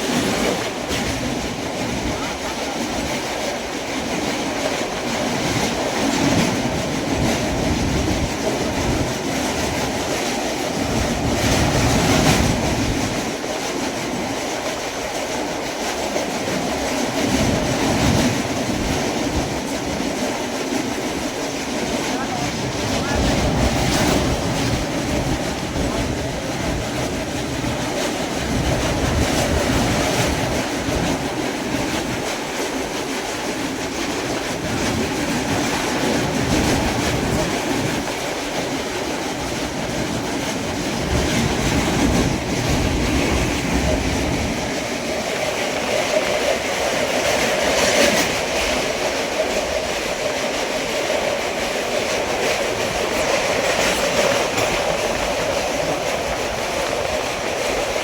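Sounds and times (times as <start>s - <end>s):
train coach rumbling and rattling: 0.0s - 58.0s.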